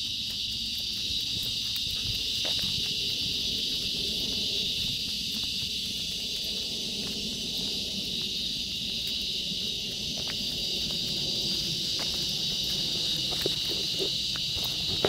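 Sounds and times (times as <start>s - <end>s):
insects chorus: 0.0s - 15.0s
walking noise: 0.0s - 15.0s
wind rumble: 0.0s - 15.0s.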